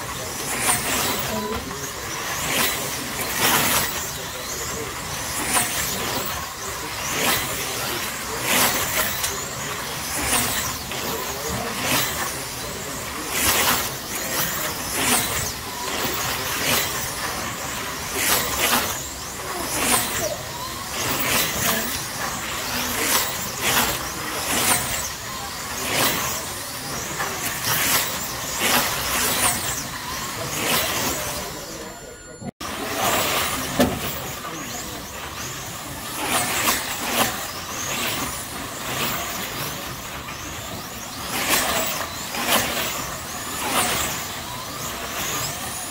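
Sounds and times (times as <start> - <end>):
small electric motors whining: 0.0 - 45.9.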